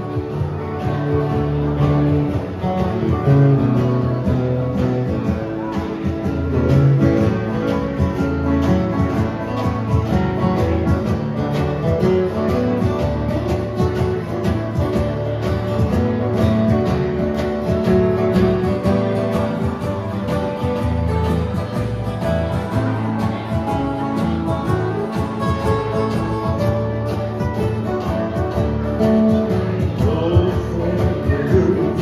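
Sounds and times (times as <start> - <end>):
country band playing: 0.0 - 32.0.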